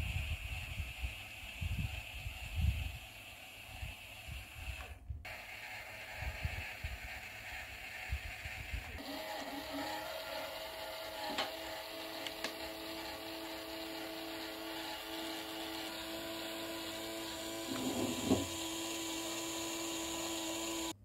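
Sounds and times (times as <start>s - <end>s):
small motor humming: 0.0s - 21.0s.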